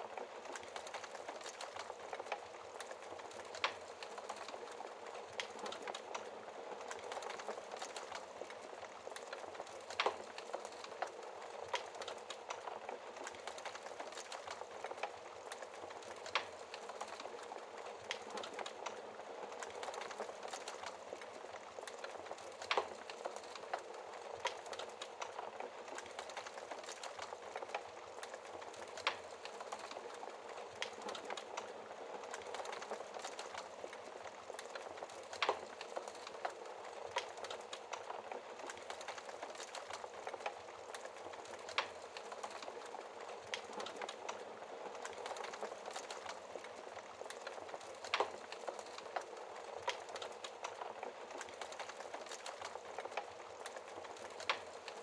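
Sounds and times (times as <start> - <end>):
wood fire crackling: 0.0 - 55.0
fire popping: 0.1 - 55.0.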